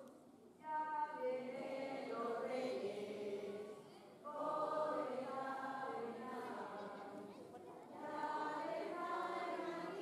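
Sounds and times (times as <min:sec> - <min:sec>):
group of voices singing: 0:00.6 - 0:07.3, 0:07.9 - 0:10.0.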